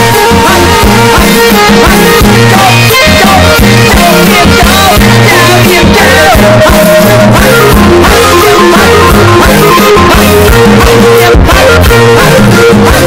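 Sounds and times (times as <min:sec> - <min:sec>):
drum beat: 0:00.0 - 0:13.0
electric guitar: 0:00.0 - 0:13.0
loud distorted pop song: 0:00.0 - 0:13.0
man singing: 0:00.0 - 0:13.0.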